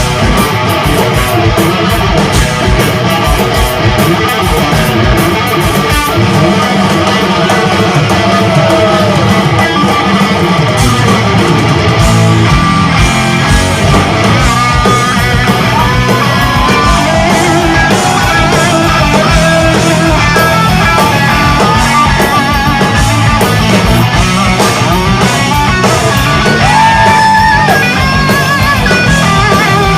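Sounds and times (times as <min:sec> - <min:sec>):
bass guitar: 0:00.0 - 0:29.9
distorted electric guitar solo: 0:00.0 - 0:29.9
pounding drums: 0:00.0 - 0:29.9.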